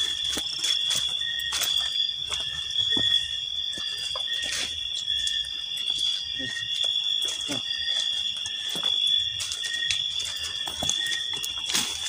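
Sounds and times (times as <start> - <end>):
footsteps through vegetation: 0.0 - 12.0
night insects chorus: 0.0 - 12.0
rustle of leaves and brush: 0.0 - 12.0.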